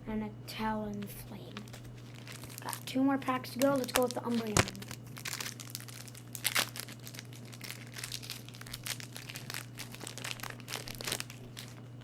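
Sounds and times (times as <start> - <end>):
foil wrapper crinkling and tearing: 1.5 - 12.0.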